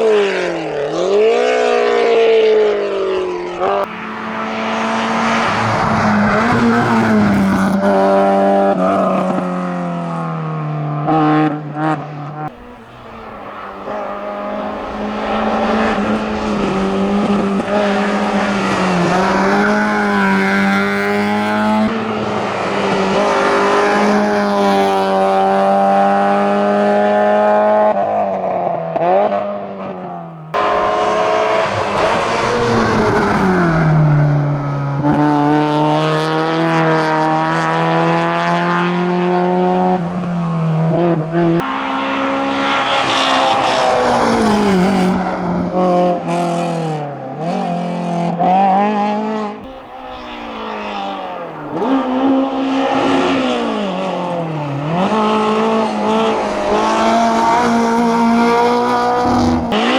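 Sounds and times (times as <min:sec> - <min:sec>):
car engine revving at full throttle: 0:00.0 - 0:59.9
second race car engine revving: 0:00.0 - 0:59.9.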